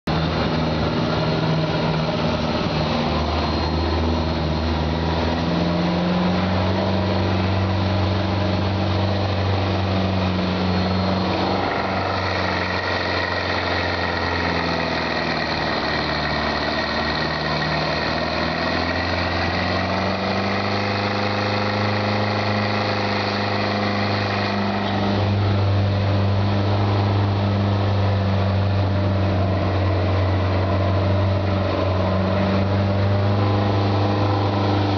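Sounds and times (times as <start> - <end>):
jeep engine droning: 0.1 - 34.9.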